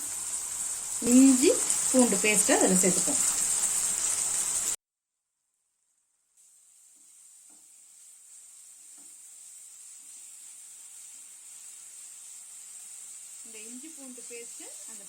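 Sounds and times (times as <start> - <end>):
food sizzling in hot oil: 0.0 - 4.8, 5.8 - 15.0.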